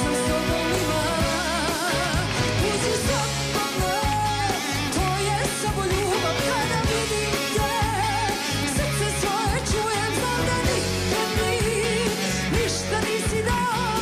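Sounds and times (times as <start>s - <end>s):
band playing pop-folk: 0.0s - 14.0s
woman singing into a microphone: 0.0s - 14.0s.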